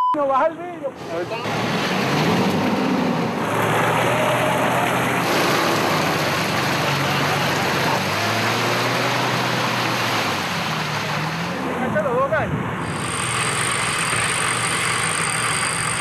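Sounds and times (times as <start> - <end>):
vehicle engine running: 0.8 - 12.1, 12.7 - 16.0.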